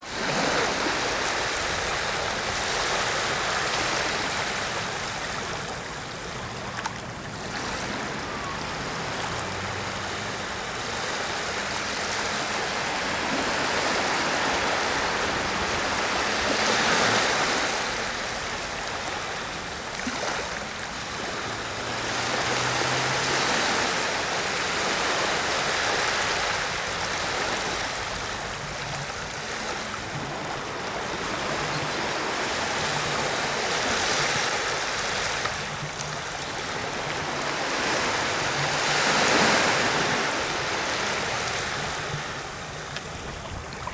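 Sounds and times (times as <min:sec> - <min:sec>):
small waves washing on sandy shore: 0:00.0 - 0:43.9.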